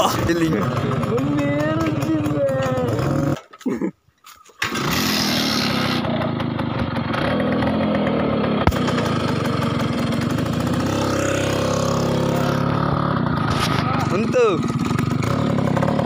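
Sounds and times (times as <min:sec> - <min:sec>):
engine idling: 0:00.0 - 0:03.4, 0:04.6 - 0:16.0.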